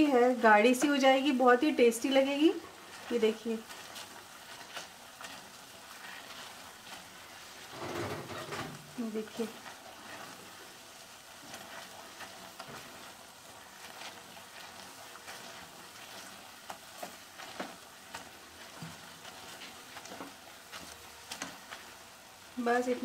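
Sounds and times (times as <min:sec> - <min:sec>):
chickpeas sizzling in a pan: 0:00.0 - 0:23.0
spatula scraping and tapping pan: 0:02.9 - 0:10.8, 0:11.4 - 0:22.1.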